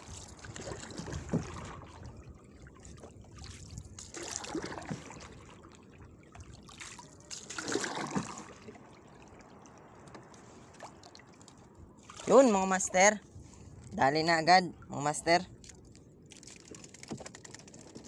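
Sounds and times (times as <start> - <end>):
seawater trickling and splashing: 0.0 - 18.0.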